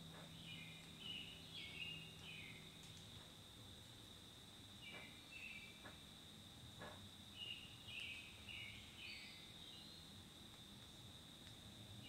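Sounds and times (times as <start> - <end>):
songbird singing faintly: 0.0 - 12.0
steady high-pitched hum: 0.0 - 12.0.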